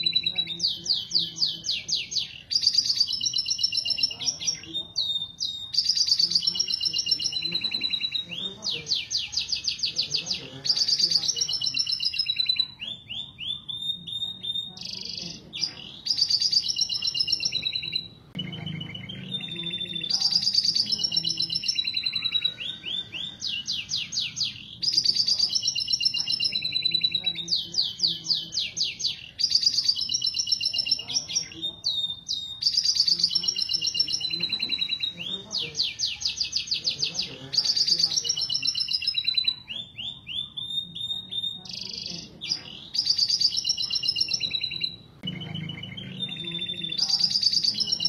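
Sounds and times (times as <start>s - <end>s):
canaries singing trills: 0.0s - 48.0s.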